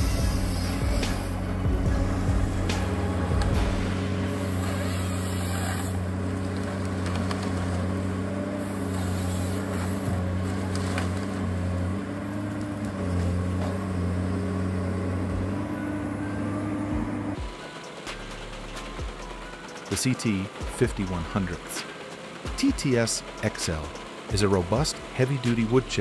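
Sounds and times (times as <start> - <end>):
harvester diesel engine running: 0.0 - 26.0.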